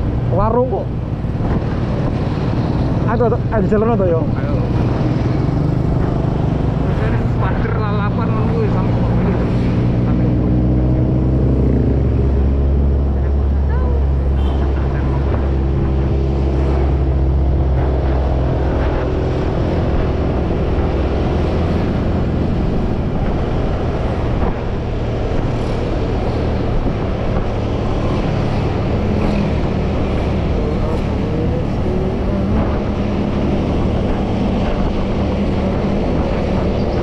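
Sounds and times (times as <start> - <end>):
rumble of wind and road noise: 0.0 - 37.0.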